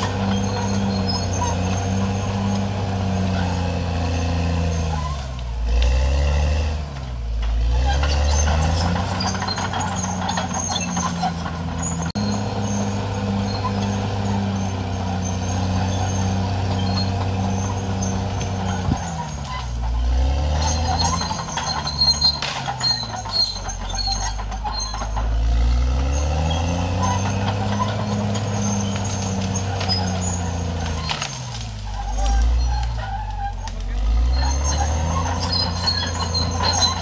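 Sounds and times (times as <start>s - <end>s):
bulldozer diesel engine throbbing: 0.0s - 37.0s.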